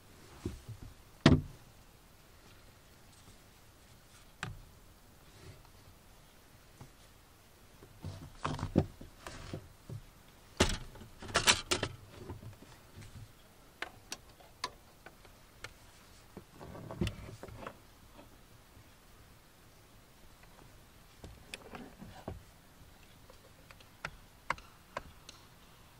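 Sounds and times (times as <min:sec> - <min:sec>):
soft rustle: 0:00.0 - 0:11.3, 0:12.0 - 0:24.0.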